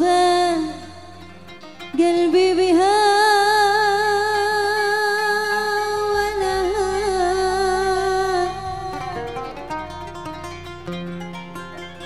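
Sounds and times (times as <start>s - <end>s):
keyboard and bass: 0.0s - 12.0s
plucked oud notes: 0.0s - 12.0s.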